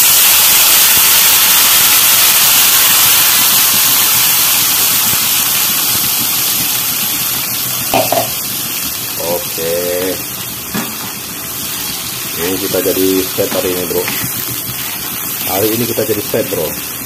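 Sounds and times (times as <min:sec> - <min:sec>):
sauce sizzling in hot oil: 0:00.0 - 0:17.0.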